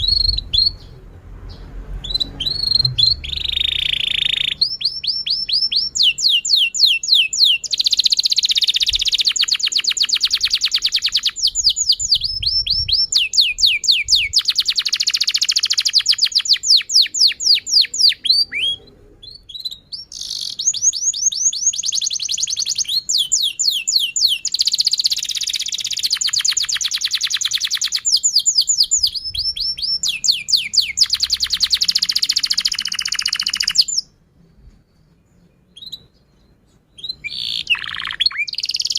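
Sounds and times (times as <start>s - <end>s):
canary singing: 0.0s - 34.2s, 35.3s - 38.9s.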